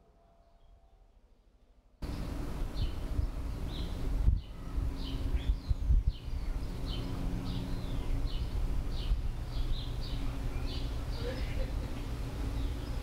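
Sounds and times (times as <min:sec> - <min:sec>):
small bird chirping: 0:02.0 - 0:13.0
steady low rumble: 0:02.0 - 0:13.0.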